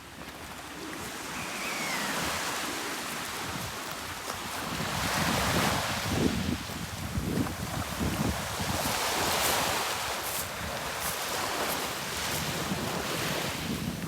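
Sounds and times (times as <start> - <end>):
sea waves washing in: 0.4 - 14.0
wind rumbling on microphone: 0.4 - 14.0.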